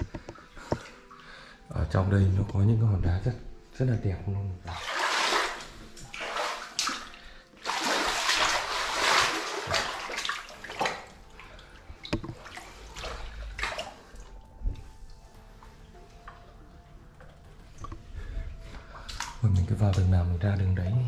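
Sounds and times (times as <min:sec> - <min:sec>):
water splashing and sloshing: 0:00.0 - 0:01.6, 0:04.6 - 0:21.0.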